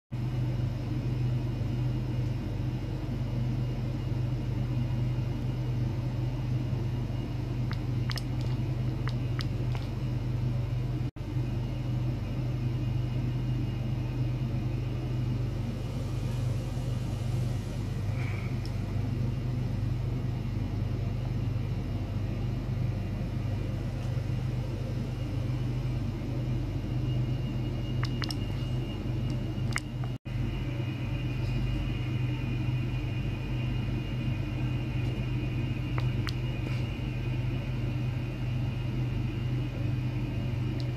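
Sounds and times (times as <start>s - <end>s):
electrical hum of equipment: 0.1s - 40.9s.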